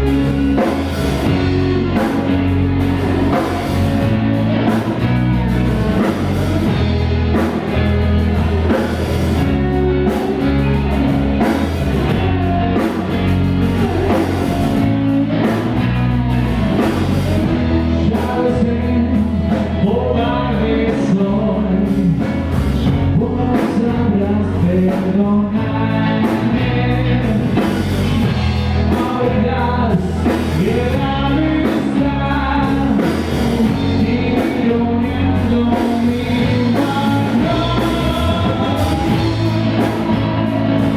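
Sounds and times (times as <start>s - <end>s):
person singing: 0.0s - 40.9s
rock band playing: 0.0s - 40.9s.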